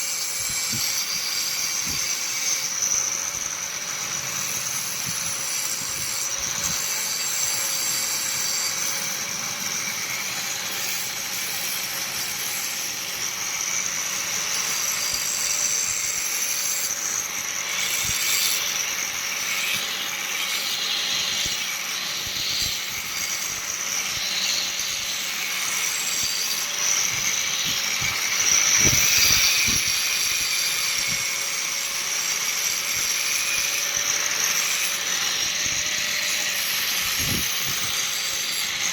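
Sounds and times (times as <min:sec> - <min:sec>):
power tool running: 0:00.0 - 0:38.9.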